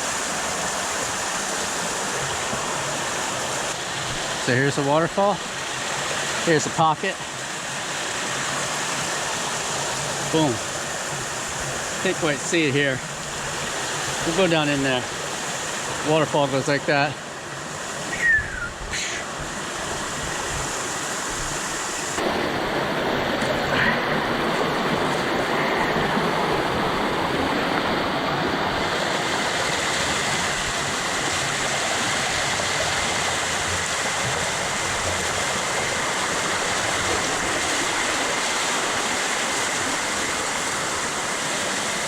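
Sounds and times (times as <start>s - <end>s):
waterfall rushing over rock: 0.0s - 42.0s.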